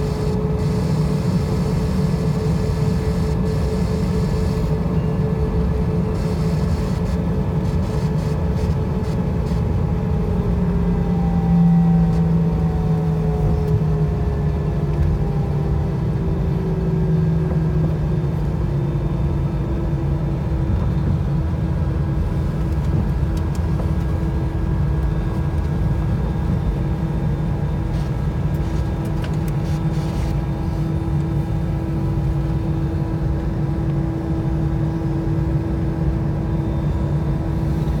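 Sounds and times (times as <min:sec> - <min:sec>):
jet engines rumbling in cabin: 0:00.0 - 0:38.0.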